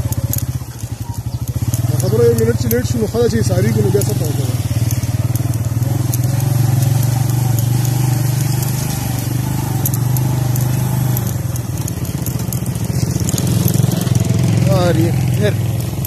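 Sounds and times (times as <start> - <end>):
light clicks: 0.0 - 16.0
motorcycle engine running: 0.0 - 16.0.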